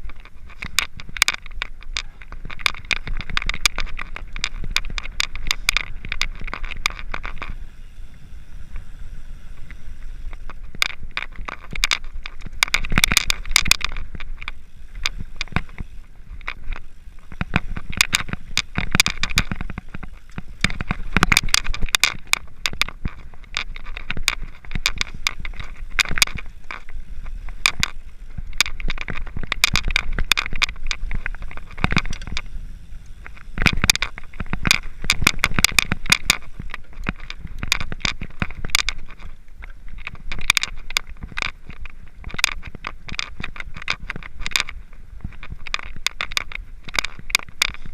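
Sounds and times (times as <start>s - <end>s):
bike tyres crunching on gravel: 0.0s - 47.9s
bikes rattling: 0.0s - 47.9s.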